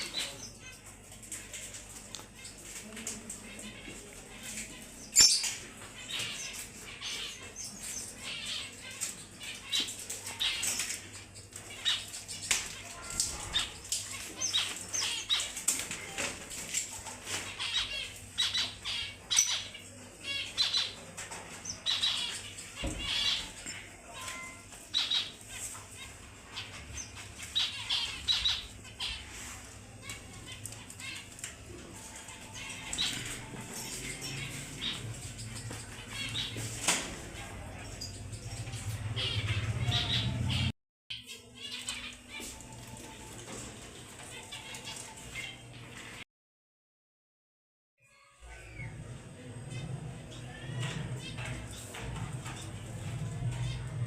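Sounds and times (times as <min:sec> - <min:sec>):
pet birds squawking and chirping: 0:00.0 - 0:46.2, 0:48.0 - 0:54.0.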